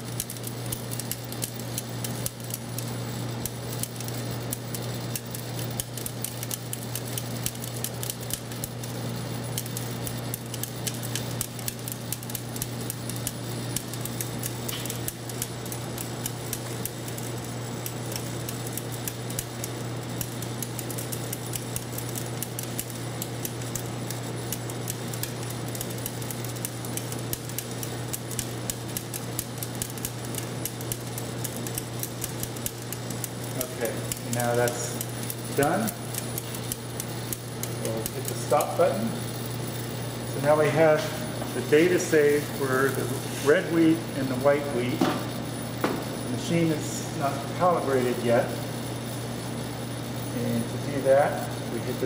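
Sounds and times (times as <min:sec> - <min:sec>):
vibratory feeder humming: 0:00.0 - 0:52.0
wheat kernels ticking: 0:00.0 - 0:52.0.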